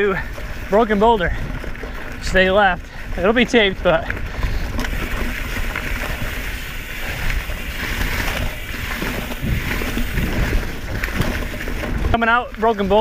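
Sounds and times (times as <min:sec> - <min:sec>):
bike rattle: 0:00.0 - 0:13.0
bike tyres on dirt: 0:00.0 - 0:13.0
wind rumbling on microphone: 0:00.0 - 0:13.0.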